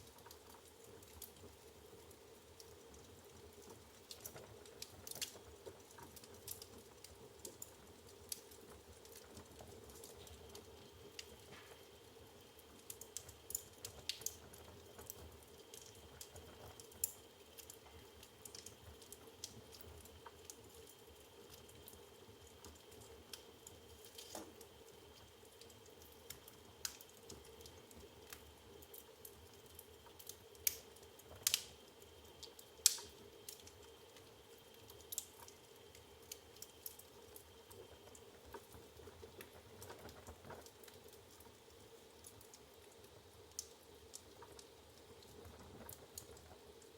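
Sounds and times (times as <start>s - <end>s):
firewood crackling and popping: 0.0s - 46.9s.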